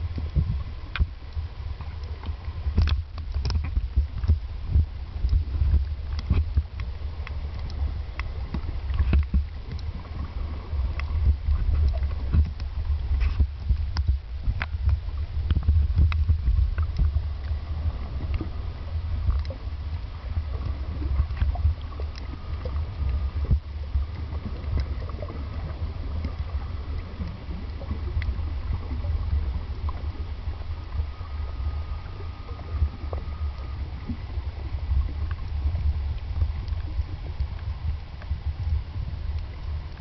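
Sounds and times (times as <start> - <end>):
clicks and crackles underwater: 0.0 - 40.0
faint steady whine: 0.0 - 40.0
underwater rumble of moving water: 0.0 - 40.0.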